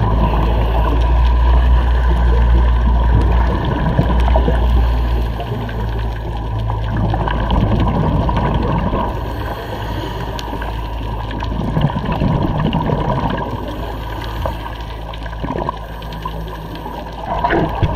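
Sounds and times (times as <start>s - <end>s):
low underwater rumble: 0.0s - 17.9s
muffled gurgling of bubbles: 0.0s - 17.9s.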